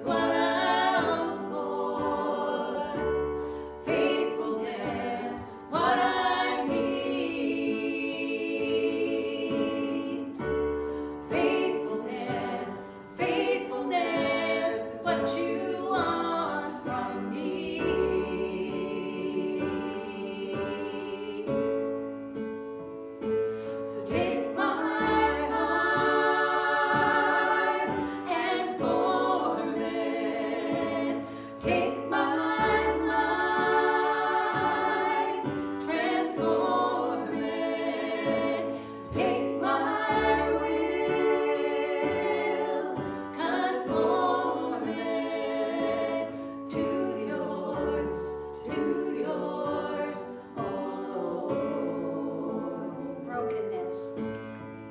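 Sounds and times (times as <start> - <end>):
voices singing together: 0.0 - 21.9, 23.5 - 54.9
instrumental accompaniment: 0.0 - 52.8.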